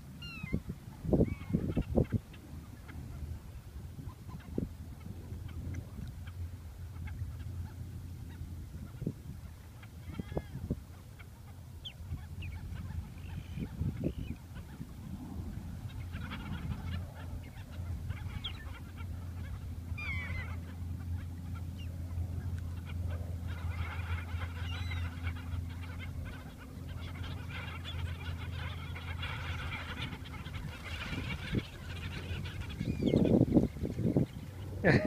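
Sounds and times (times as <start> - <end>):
steady low hum: 0.0 - 35.0
birds calling: 0.2 - 35.0.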